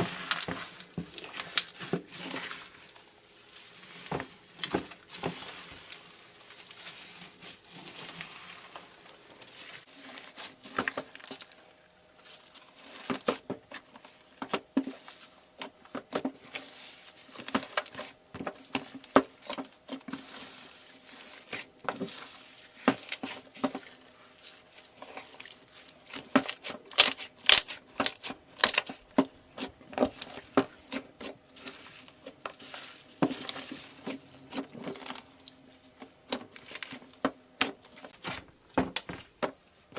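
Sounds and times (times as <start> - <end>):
hands crushing crunchy things: 0.0 - 39.5.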